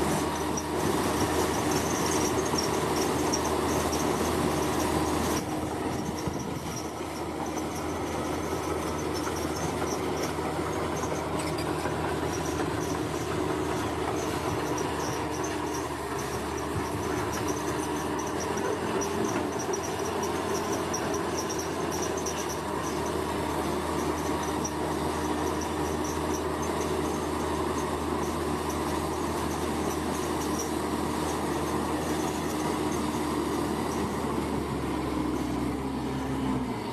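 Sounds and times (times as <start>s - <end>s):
diesel engines droning: 0.0s - 36.9s
insects trilling: 5.9s - 35.6s.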